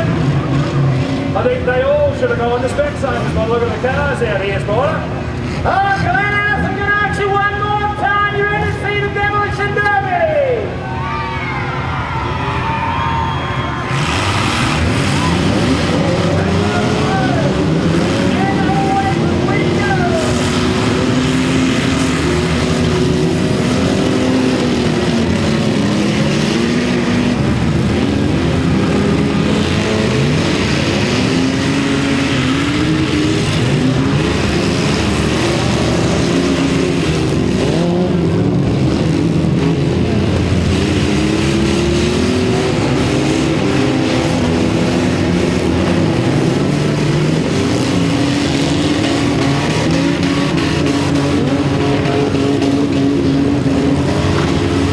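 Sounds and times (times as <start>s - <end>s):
many car engines revving: 0.0s - 54.9s.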